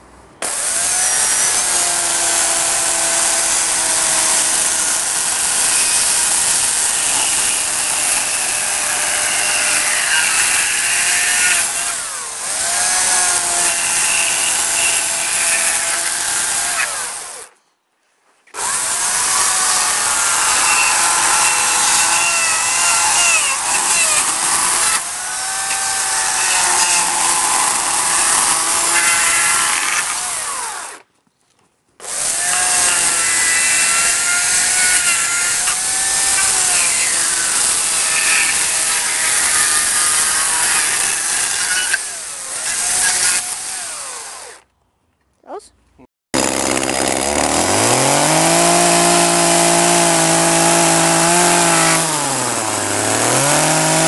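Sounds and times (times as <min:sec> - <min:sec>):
electric chainsaw cutting wood: 0:00.4 - 0:17.6, 0:18.5 - 0:31.1, 0:32.0 - 0:44.7, 0:46.4 - 0:54.0.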